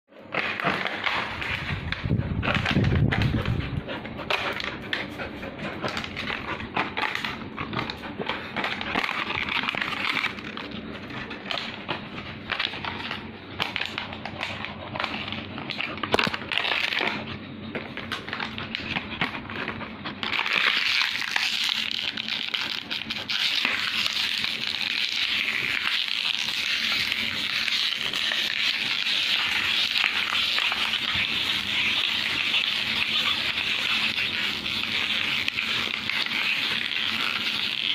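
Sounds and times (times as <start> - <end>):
dog chewing crinkling plastic: 0.1 - 37.9.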